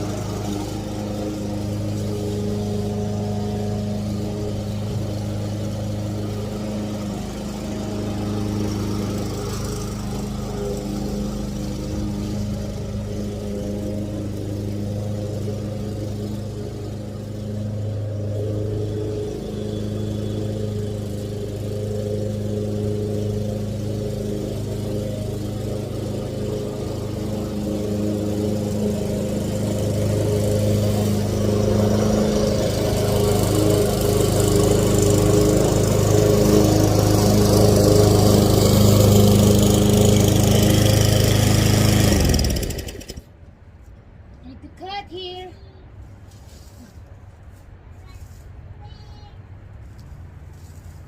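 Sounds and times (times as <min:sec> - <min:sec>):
lawn mower engine running: 0:00.0 - 0:43.5.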